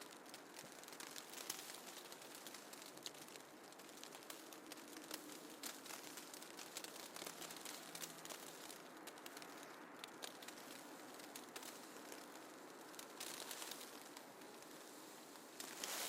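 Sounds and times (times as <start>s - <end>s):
light ticks and crackles: 0.0s - 16.0s
snowfall hiss: 0.0s - 16.0s.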